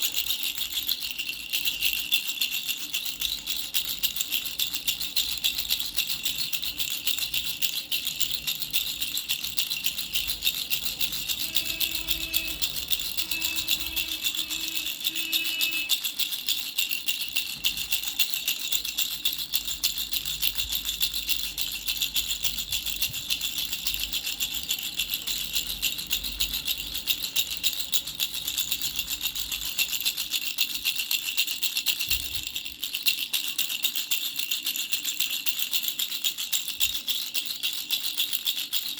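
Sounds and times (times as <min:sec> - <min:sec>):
baby rattle shaken fast: 0:00.0 - 0:38.9.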